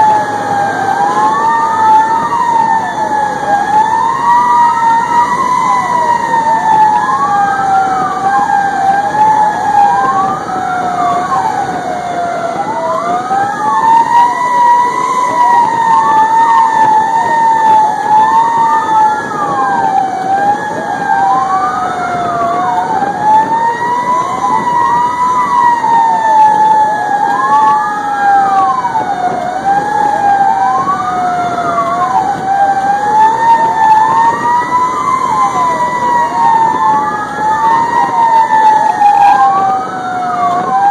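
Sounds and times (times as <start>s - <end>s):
fast wailing siren: 0.0s - 40.9s
slow wailing siren: 0.0s - 40.9s
truck engine rumble: 0.0s - 40.9s.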